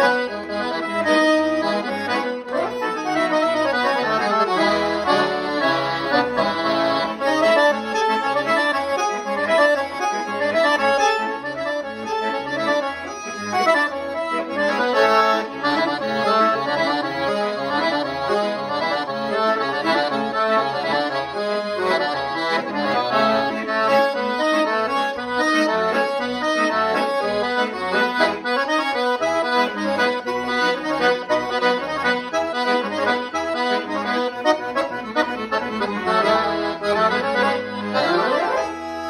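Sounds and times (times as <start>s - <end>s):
accordion melody with bass: 0.0s - 39.0s.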